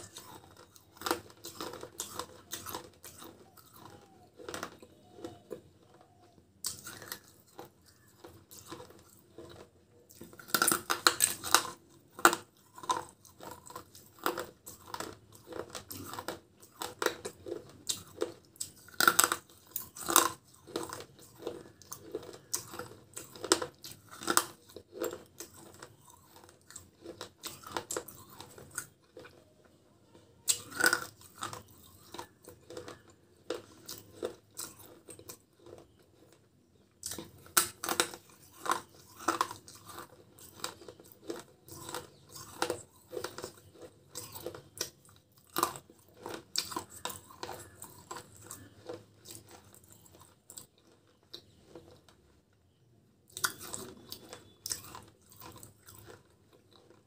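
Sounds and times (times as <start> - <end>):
chewing crunchy clay pieces: 0.0 - 52.3, 53.3 - 57.0.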